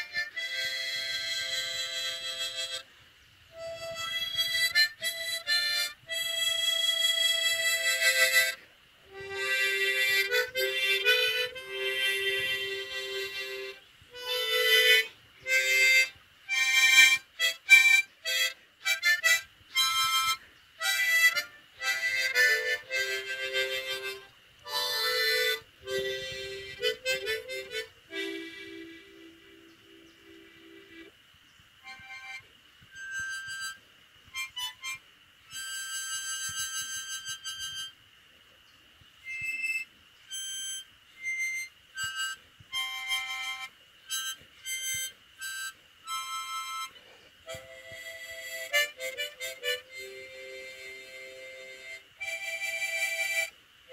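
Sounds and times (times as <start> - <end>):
harmonica melody: 0.0 - 2.9, 3.5 - 31.1, 31.8 - 38.0, 39.2 - 53.9.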